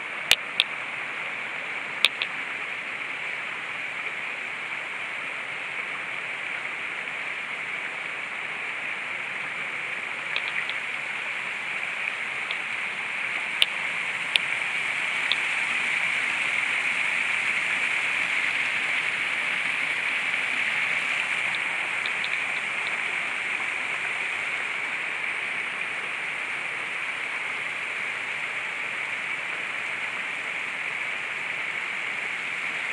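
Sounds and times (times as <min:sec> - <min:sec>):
brook splashing over boulders: 0:00.0 - 0:32.9.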